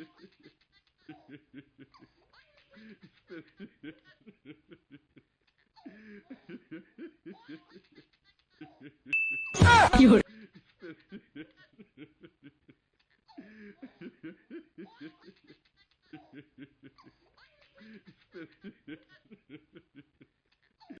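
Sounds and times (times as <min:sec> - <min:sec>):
faint laughter: 0:00.0 - 0:21.0.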